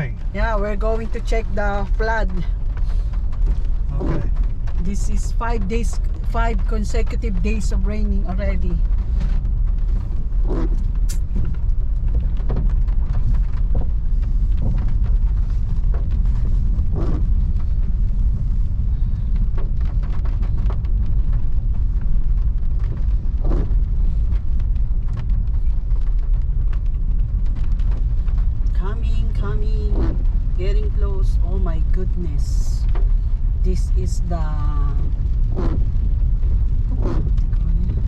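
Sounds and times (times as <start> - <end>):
car driving rumble inside cabin: 0.0 - 38.0.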